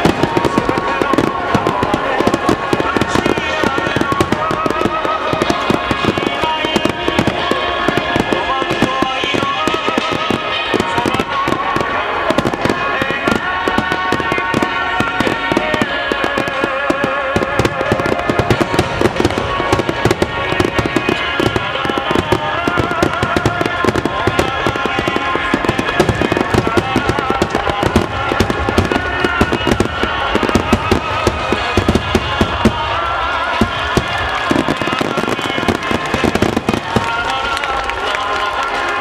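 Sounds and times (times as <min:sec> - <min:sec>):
fireworks bursting and crackling: 0:00.0 - 0:39.0
music playing: 0:00.0 - 0:39.0.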